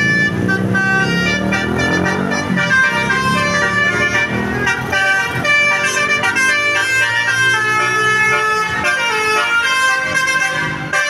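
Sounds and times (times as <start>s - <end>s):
bus horn playing a melody: 0.0s - 11.0s.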